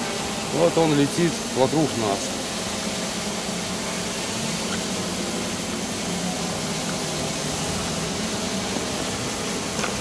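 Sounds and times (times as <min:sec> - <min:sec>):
drone propellers humming: 0:00.0 - 0:10.0
even hiss: 0:00.0 - 0:10.0.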